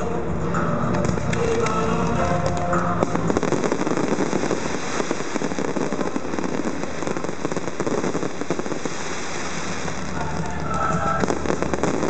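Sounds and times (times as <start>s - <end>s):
fireworks crackling: 0.9s - 12.0s.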